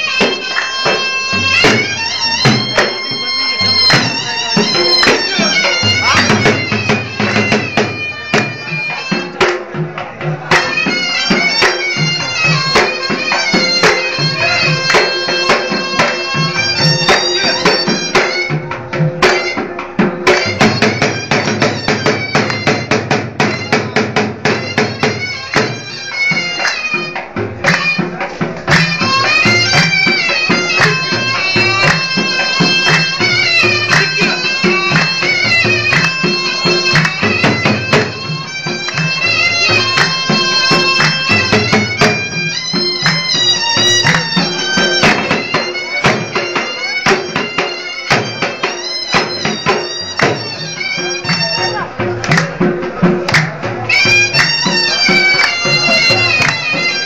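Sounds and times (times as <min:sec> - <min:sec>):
shrill reed pipe melody: 0:00.0 - 0:09.4, 0:10.5 - 0:52.0, 0:53.7 - 0:57.0
dhol drum beating fast rhythm: 0:00.0 - 0:57.0.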